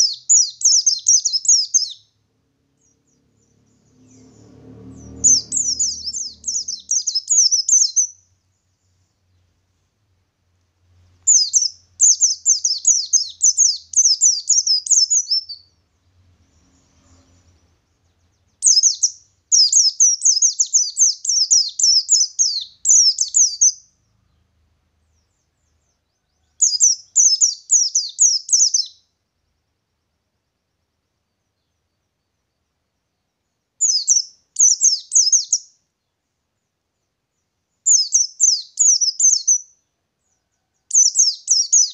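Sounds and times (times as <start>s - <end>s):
bird twittering song: 0.0s - 9.6s, 10.9s - 29.7s, 30.8s - 41.9s.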